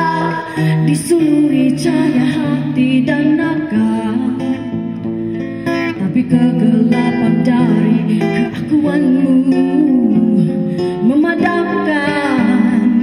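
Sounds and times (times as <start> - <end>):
strummed acoustic guitar: 0.0 - 13.0
woman singing: 0.0 - 13.0.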